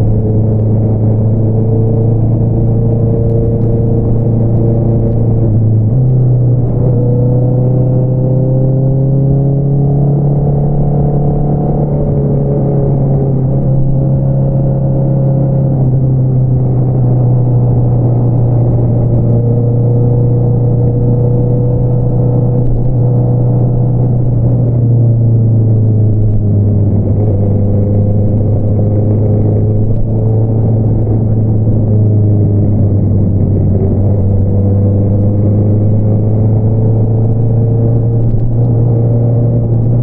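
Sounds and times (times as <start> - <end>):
motorcycle engine droning: 0.0 - 40.0.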